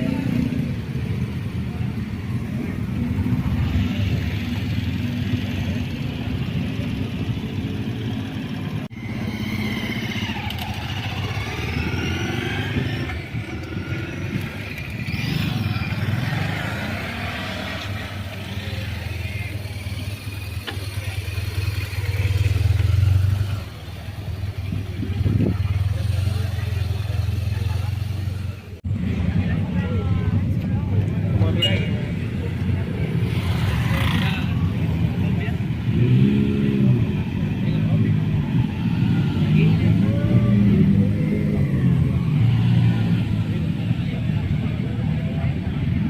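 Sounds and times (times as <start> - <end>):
motorcycle engines running: 0.0 - 46.0.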